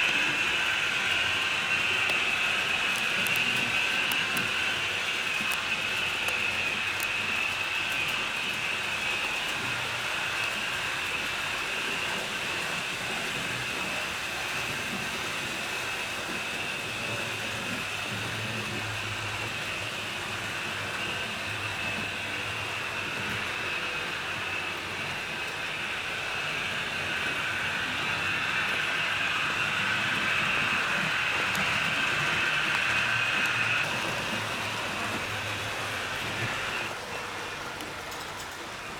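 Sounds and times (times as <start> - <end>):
model train motor whine: 0.0 - 38.9
wheels rumbling on track: 0.0 - 38.9.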